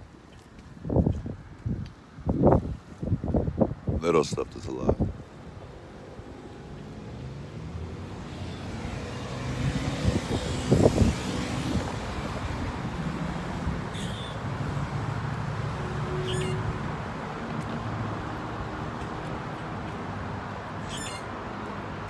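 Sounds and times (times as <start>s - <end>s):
passing road traffic: 0.0s - 22.0s.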